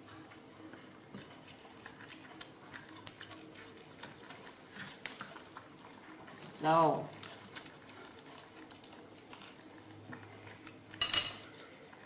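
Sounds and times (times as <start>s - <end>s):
monkeys eating with clicks: 0.0s - 12.0s.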